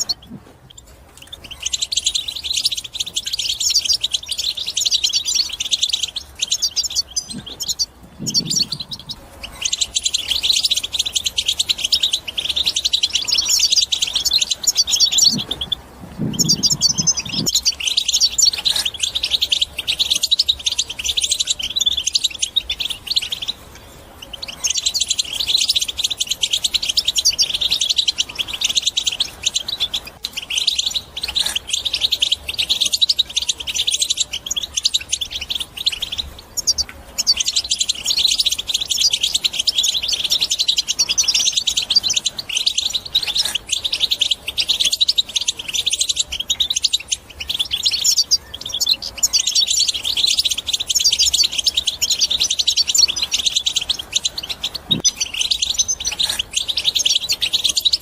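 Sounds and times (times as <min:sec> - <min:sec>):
goldfinch chattering song: 0:00.0 - 0:58.0.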